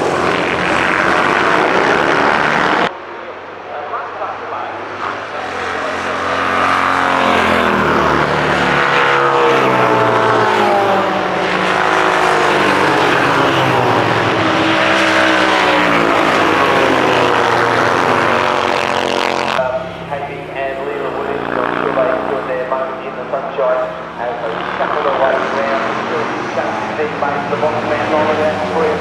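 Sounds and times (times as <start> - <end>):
racing engines revving: 0.0 - 29.0.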